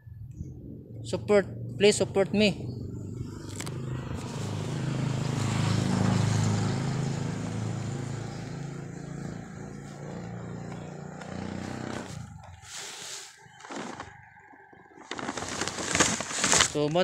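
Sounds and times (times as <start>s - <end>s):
vehicle engine hum: 0.0s - 16.7s
road noise: 0.5s - 17.0s.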